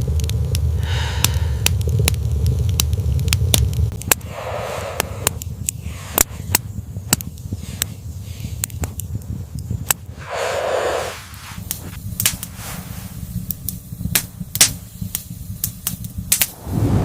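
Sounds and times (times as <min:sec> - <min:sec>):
low rumble: 0:00.0 - 0:07.6, 0:09.9 - 0:17.0
fire crackling and popping: 0:00.0 - 0:17.0.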